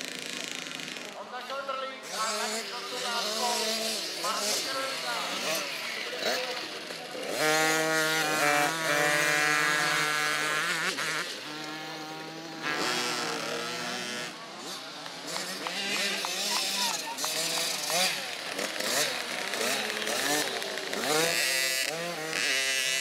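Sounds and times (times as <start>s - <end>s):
bikes passing: 0.0s - 23.0s
motocross bike engines revving: 0.0s - 23.0s.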